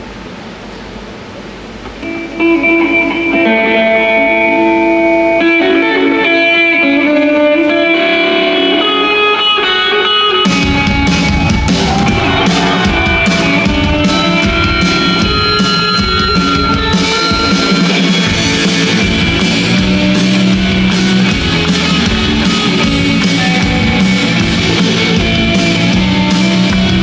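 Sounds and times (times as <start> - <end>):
held guitar melody: 2.0 - 27.0
live band with drums and bass: 4.6 - 27.0.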